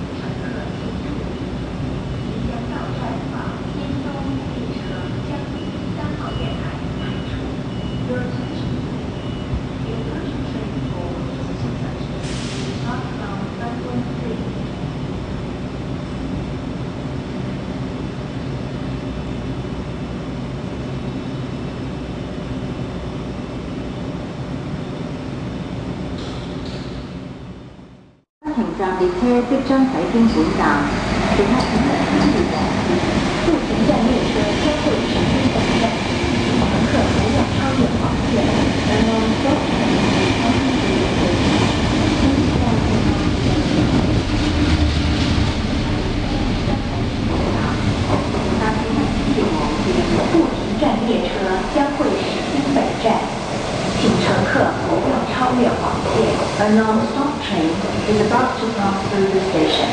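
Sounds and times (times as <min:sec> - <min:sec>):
train mechanical drone: 0:00.0 - 0:59.9.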